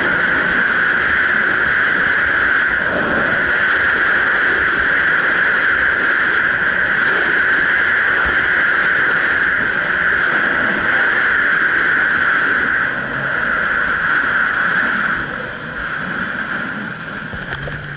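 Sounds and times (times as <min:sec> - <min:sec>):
jet ski engine drone: 0:00.0 - 0:17.9
rushing water: 0:00.0 - 0:17.9.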